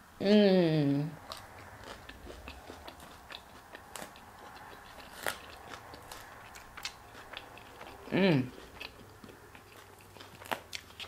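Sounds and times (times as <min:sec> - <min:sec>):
chewing and crunching salad: 0:01.1 - 0:11.0.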